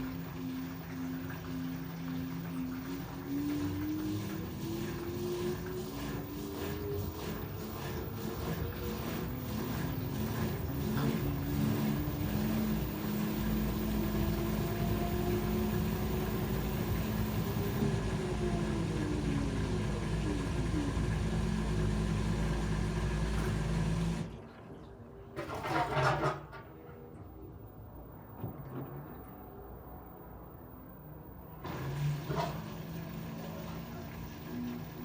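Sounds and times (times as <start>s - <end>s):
washing machine spin cycle: 0.0s - 35.0s.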